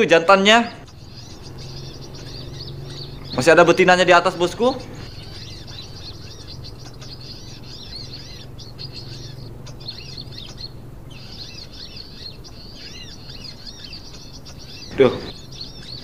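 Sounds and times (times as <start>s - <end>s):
small birds twittering: 0.0s - 16.0s
steady low hum: 0.2s - 16.0s.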